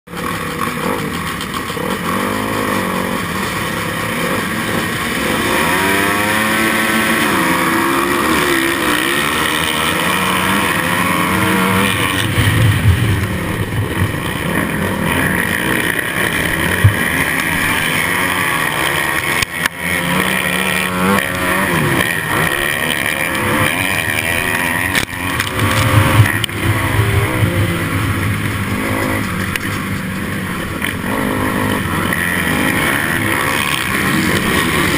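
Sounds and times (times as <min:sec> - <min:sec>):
dirt bike engine revving: 0:00.1 - 0:34.9
pack of dirt bike engines: 0:00.1 - 0:34.9.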